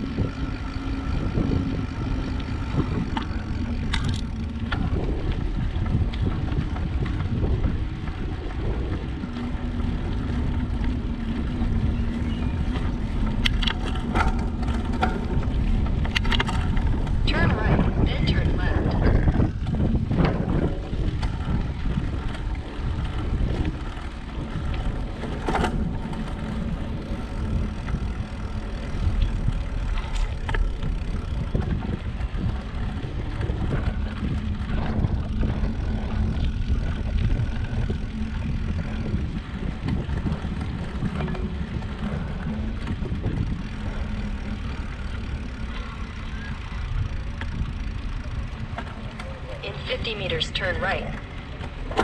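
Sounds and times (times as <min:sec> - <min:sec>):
bicycle tyre and road noise: 0:00.0 - 0:52.0
wind buffeting microphone: 0:00.0 - 0:52.0.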